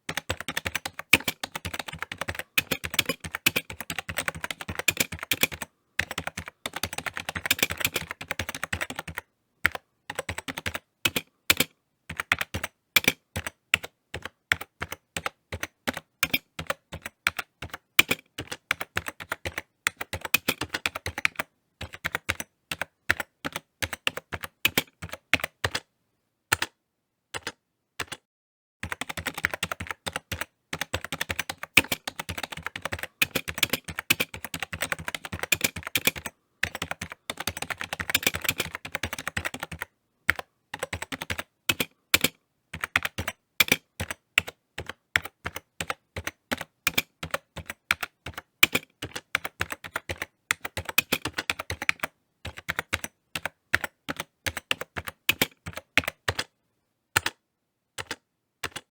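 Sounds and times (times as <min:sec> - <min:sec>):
keyboard keys clicking: 0:00.0 - 0:25.9, 0:27.4 - 0:28.2, 0:28.8 - 0:56.5, 0:57.2 - 0:57.4, 0:58.0 - 0:58.9.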